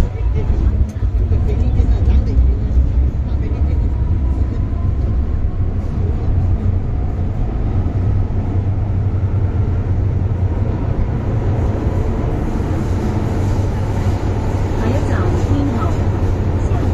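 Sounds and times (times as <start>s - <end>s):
train rumbling on rails: 0.0s - 16.9s.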